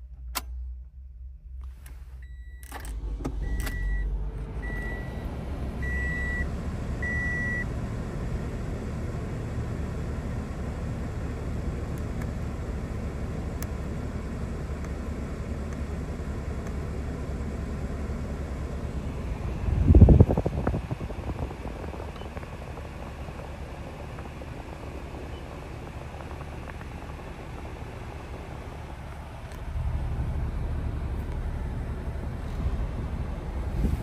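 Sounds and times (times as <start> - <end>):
car engine starting and idling: 0.0 - 34.0.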